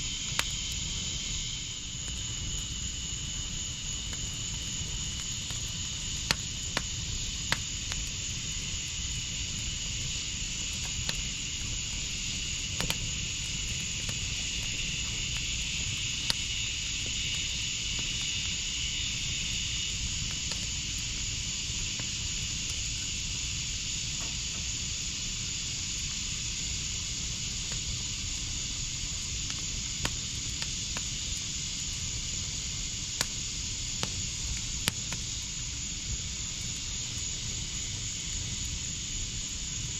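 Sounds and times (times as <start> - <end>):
wood fire hissing and crackling: 0.0 - 39.9.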